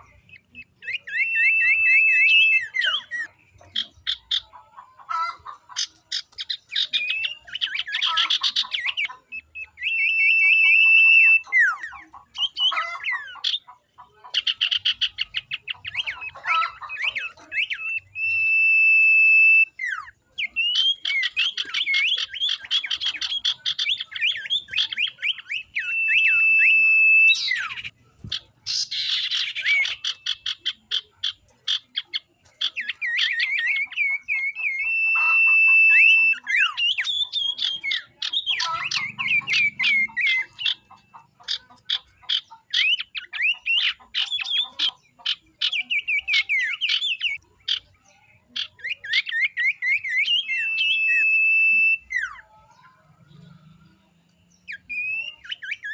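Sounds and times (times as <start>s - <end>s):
birds whistling and trilling: 0.0s - 55.9s.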